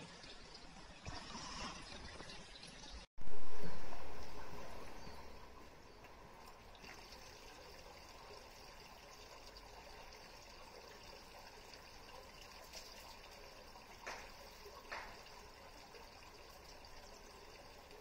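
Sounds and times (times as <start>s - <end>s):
water trickling into stone basin: 0.0s - 18.0s.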